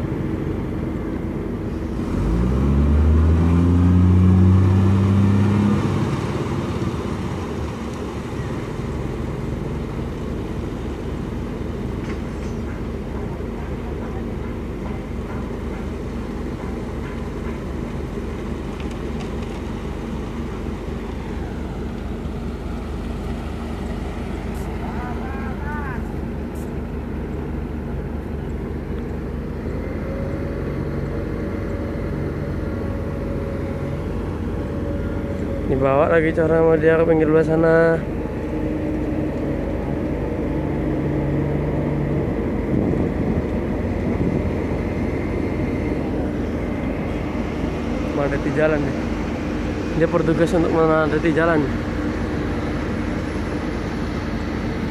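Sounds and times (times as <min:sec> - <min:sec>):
diesel engines droning: 0:00.0 - 0:54.9.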